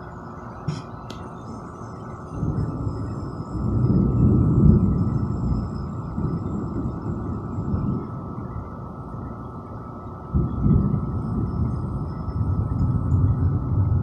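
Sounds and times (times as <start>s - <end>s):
low rolling thunder: 2.3s - 14.0s.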